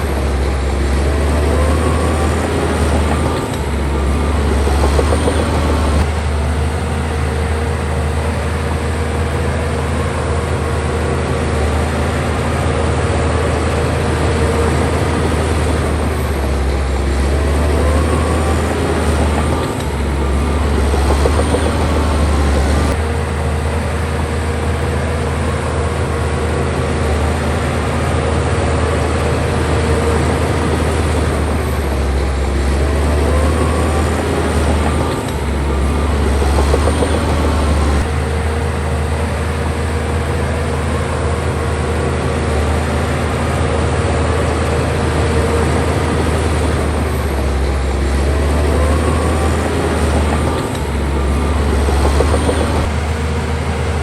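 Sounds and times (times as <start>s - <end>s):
faint rising squeaks: 0.0s - 54.0s
heavy diesel machinery engine drone: 0.0s - 54.0s.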